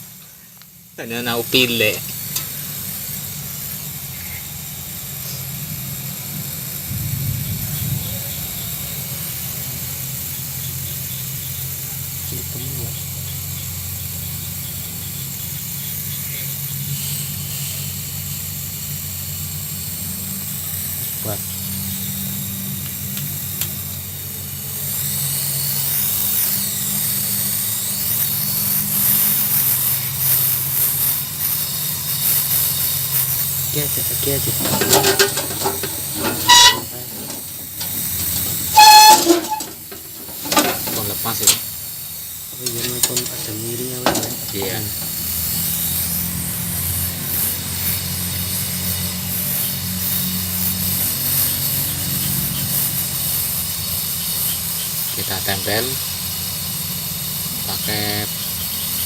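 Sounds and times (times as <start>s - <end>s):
gas torch flame hissing: 0.0s - 59.0s.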